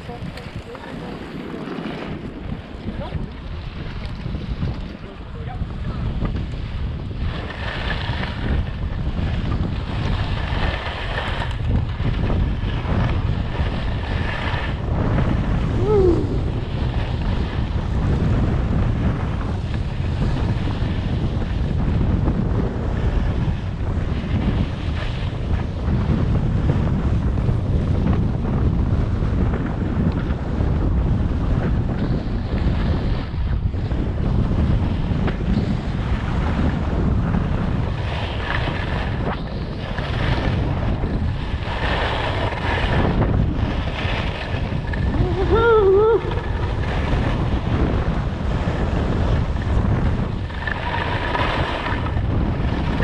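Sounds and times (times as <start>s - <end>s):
skis sliding over snow: 0.0s - 53.0s
wind buffeting microphone: 0.0s - 53.0s.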